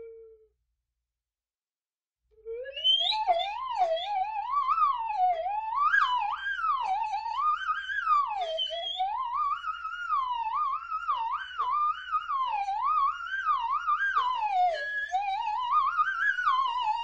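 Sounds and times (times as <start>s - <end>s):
slide whistle swooping: 2.4s - 17.0s.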